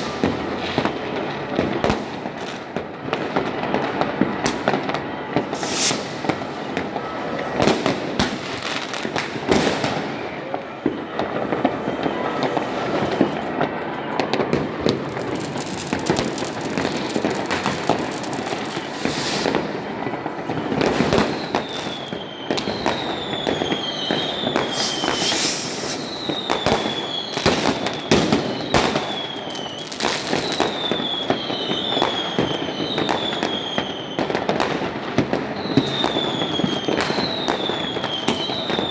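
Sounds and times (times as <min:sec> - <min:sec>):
descending firework whistles: 0:00.0 - 0:38.9
fireworks bangs and crackling: 0:00.0 - 0:38.9.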